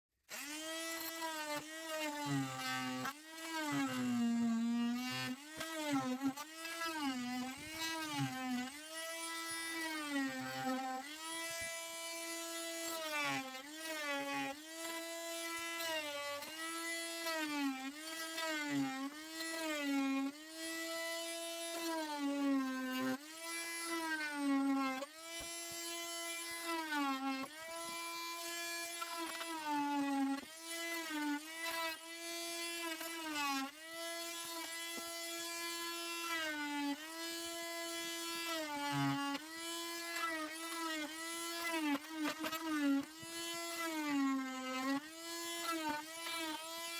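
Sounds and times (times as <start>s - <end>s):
power saw cutting metal: 0.3s - 46.9s.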